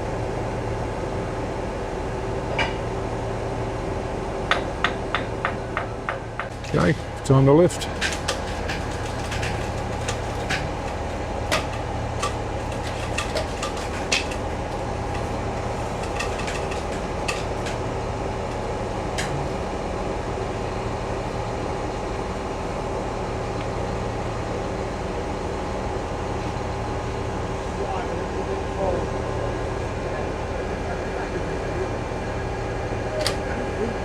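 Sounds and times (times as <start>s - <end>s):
crane diesel engine running: 0.0s - 34.0s.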